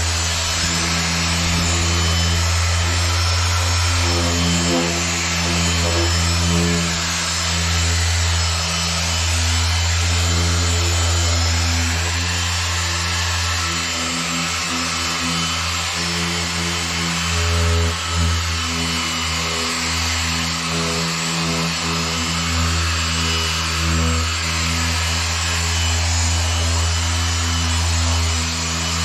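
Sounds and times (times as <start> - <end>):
polisher motor humming: 0.0 - 29.0.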